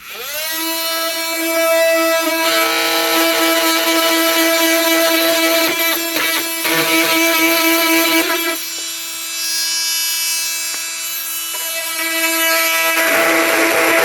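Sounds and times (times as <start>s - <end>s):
oscillating multi-tool buzzing: 0.0s - 14.0s.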